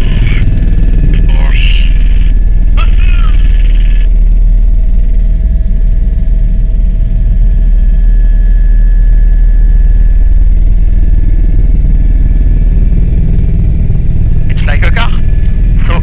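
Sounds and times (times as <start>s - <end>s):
helicopter rotor rumble: 0.0s - 16.0s
thin steady whine: 0.0s - 16.0s.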